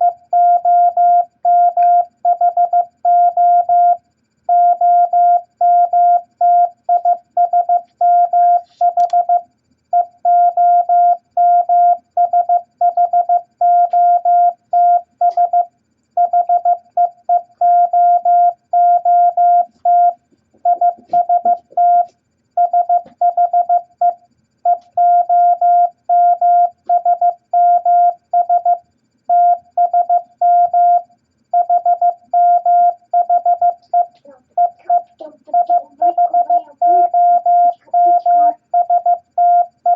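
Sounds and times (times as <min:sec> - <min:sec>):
morse code beeps: 0:00.0 - 0:09.4, 0:10.0 - 0:39.9.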